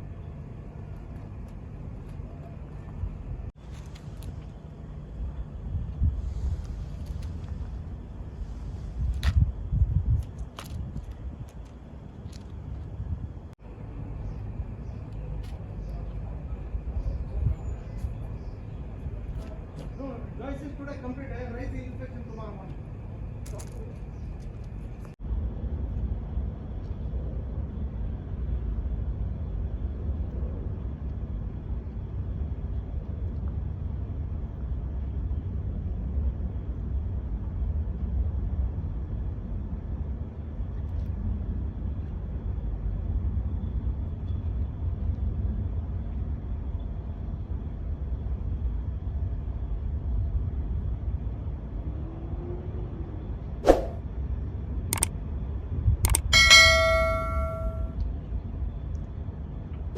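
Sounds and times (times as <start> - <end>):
moving vehicle rumble: 0.0 - 59.9.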